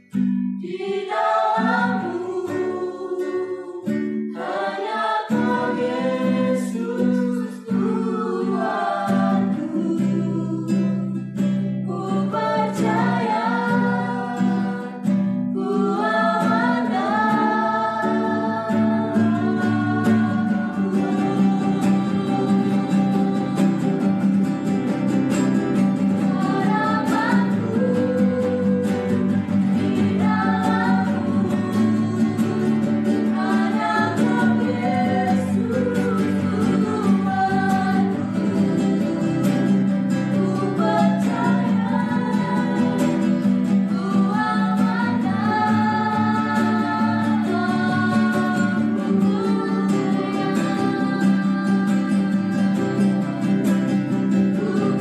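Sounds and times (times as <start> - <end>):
acoustic guitars: 0.0 - 55.0
group singing worship song: 0.0 - 55.0.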